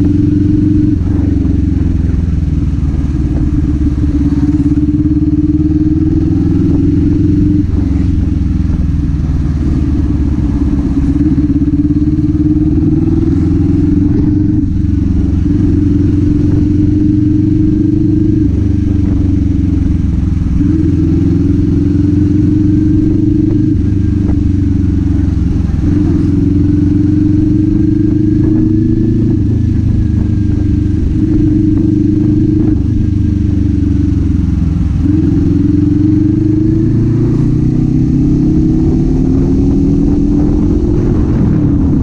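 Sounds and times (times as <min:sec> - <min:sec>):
motorcycle engine and exhaust: 0:00.0 - 0:42.0.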